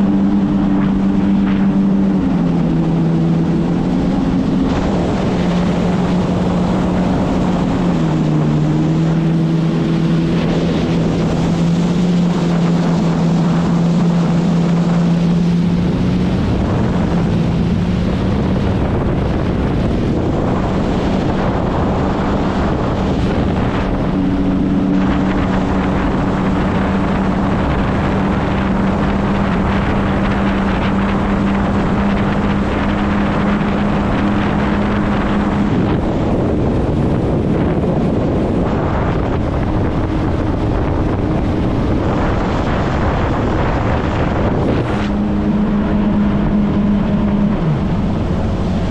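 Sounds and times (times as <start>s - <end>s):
jet ski engine cruising: 0.0s - 48.9s
water rushing: 0.0s - 48.9s
wind on microphone: 0.0s - 48.9s.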